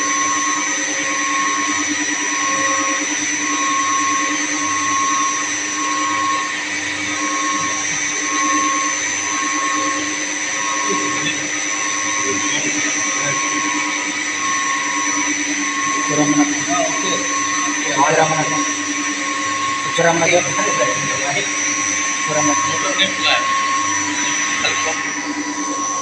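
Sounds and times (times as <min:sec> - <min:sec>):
pulsing high tone: 0:00.0 - 0:26.0
pump motors humming: 0:00.0 - 0:26.0.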